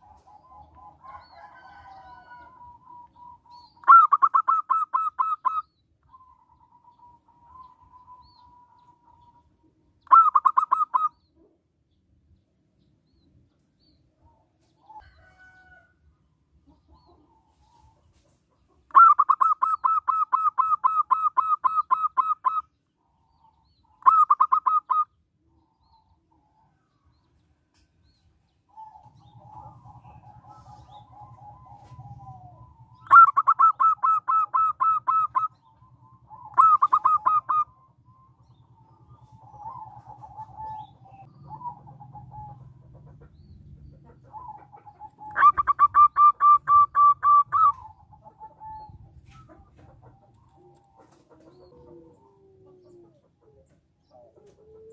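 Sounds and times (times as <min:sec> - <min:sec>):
dove cooing: 0:00.0 - 0:11.6, 0:16.7 - 0:26.8, 0:28.7 - 0:54.9.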